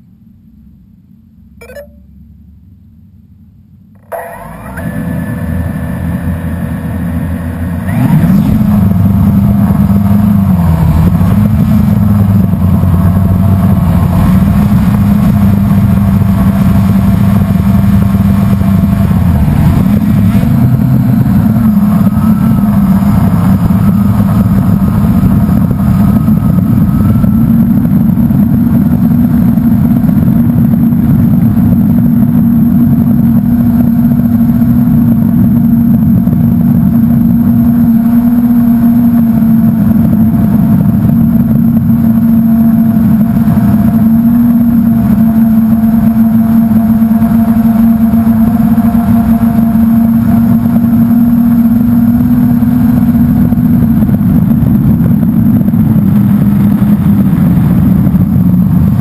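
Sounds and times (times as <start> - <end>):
heavy low rumble: 0.0 - 59.0
quadcopter motors humming: 4.0 - 59.0.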